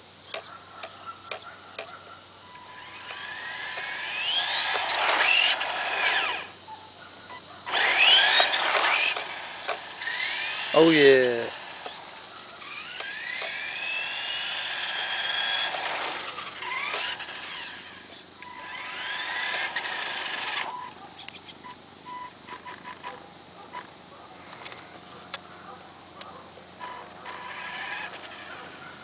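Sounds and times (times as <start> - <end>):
electric motor and gears whining: 0.0 - 29.0.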